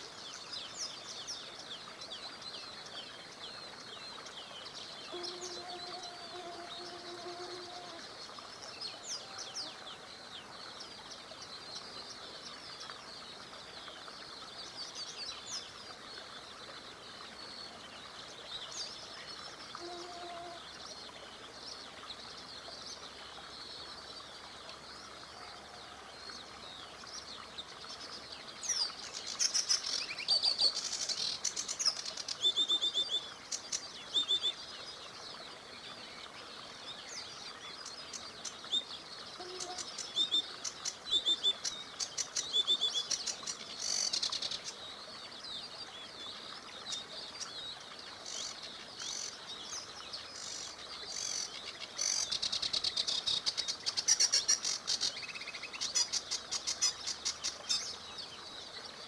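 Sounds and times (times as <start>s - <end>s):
small river flowing: 0.0s - 59.0s.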